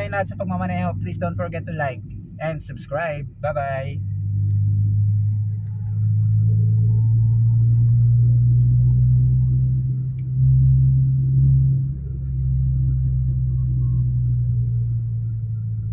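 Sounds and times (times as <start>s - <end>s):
car exhaust drone: 0.0s - 15.9s.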